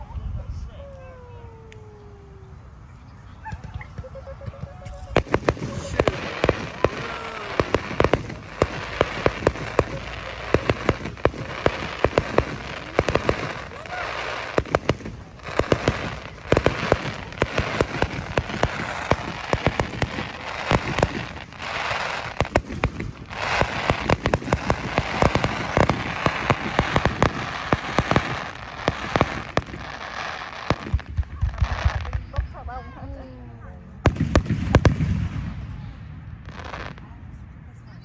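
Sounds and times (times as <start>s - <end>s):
fireworks bangs and pops: 3.4s - 33.2s, 34.0s - 37.1s
fireworks crackling hiss: 3.6s - 33.4s, 34.0s - 37.1s.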